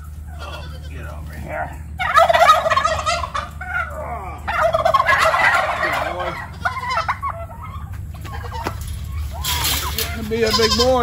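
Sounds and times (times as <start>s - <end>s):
turkey gobbling: 0.0s - 11.0s.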